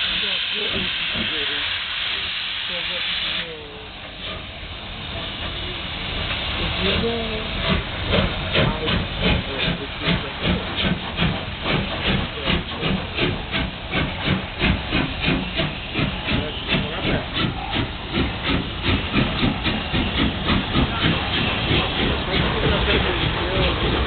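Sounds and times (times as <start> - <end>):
steam hissing: 0.0 - 24.0
steam locomotive exhaust chuffing: 0.0 - 24.0.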